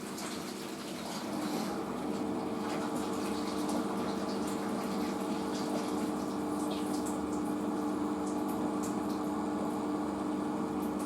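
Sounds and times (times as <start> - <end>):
drain pump humming: 0.0 - 11.0
water pumping: 0.0 - 11.0.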